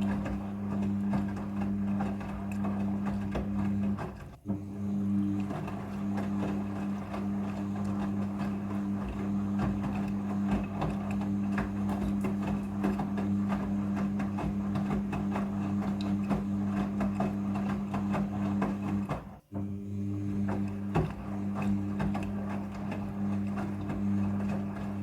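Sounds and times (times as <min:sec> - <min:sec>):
washing machine motor hum: 0:00.0 - 0:25.0
water sloshing and knocking in drum: 0:00.0 - 0:25.0.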